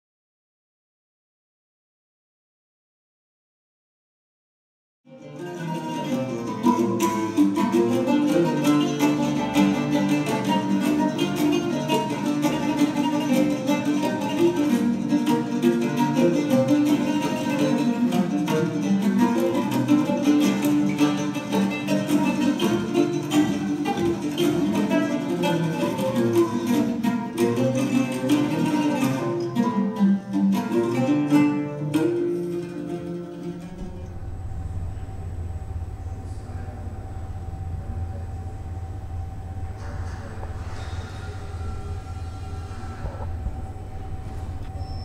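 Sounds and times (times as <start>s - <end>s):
oud plucked notes: 5.1s - 45.0s.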